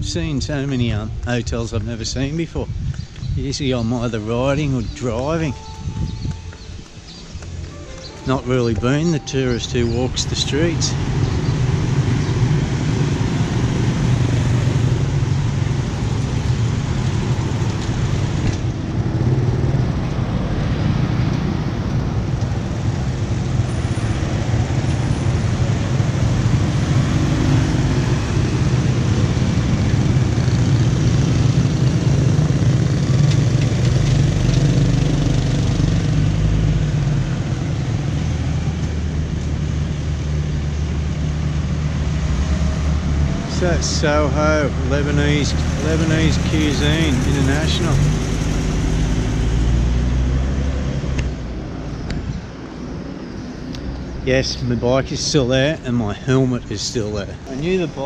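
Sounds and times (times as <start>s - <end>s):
scooters and cars driving: 2.4s - 58.0s.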